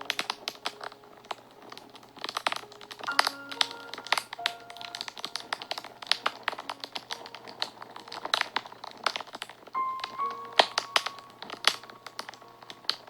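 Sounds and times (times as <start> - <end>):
soft background music: 0.0 - 13.0
wood fire crackling: 0.0 - 13.0.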